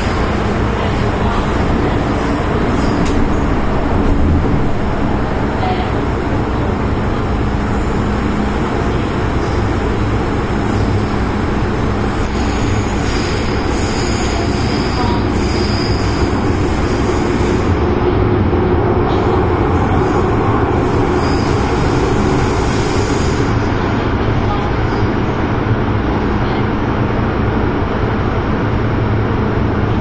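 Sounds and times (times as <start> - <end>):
metro train wheels rumbling on rails: 0.0 - 30.0.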